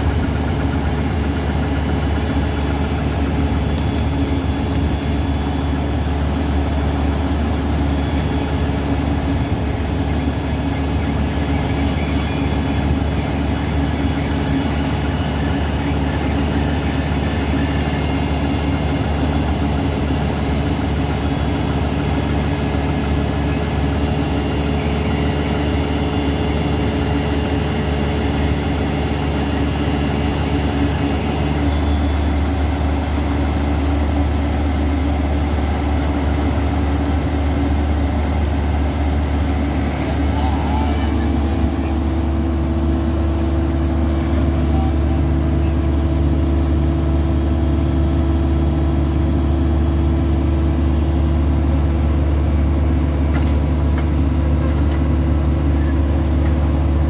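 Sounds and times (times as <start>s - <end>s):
drill rig engine humming: 0.0s - 57.0s.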